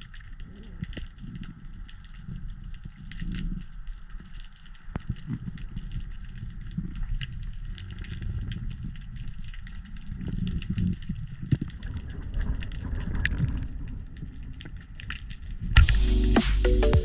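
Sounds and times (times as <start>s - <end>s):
underwater rumble: 0.0s - 15.8s.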